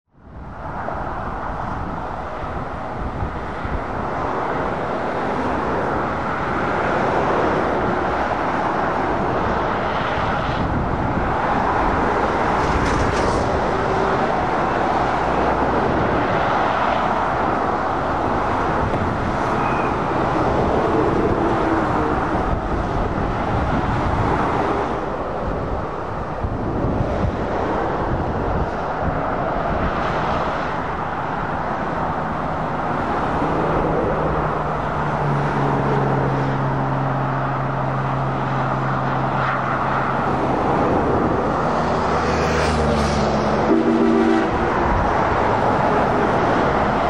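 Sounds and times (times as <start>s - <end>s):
motorway traffic rushing: 0.1s - 47.0s.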